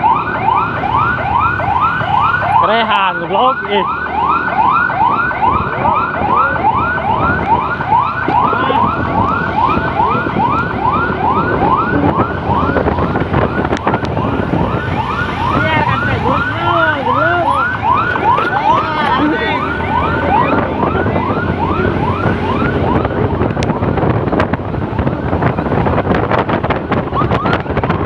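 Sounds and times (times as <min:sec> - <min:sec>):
siren fast yelp: 0:00.0 - 0:24.0, 0:27.0 - 0:28.0
engine and road noise: 0:00.0 - 0:28.0
lower siren slow sweeps: 0:00.0 - 0:28.0.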